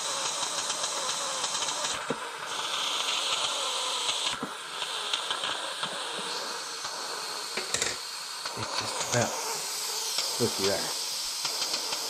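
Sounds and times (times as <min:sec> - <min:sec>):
pressure cooker steam hissing: 0:00.0 - 0:12.0.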